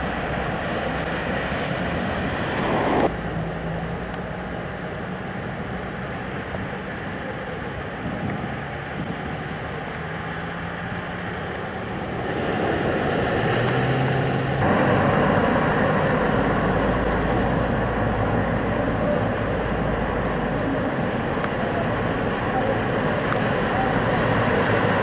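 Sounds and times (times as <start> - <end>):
low engine hum: 0.0 - 25.0
steady rushing noise: 0.0 - 25.0.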